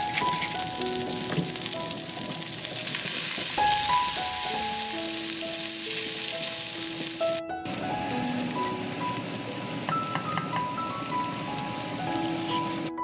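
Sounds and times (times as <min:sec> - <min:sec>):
butter sizzling in a pan: 0:00.0 - 0:12.8
gentle background music: 0:00.0 - 0:13.0.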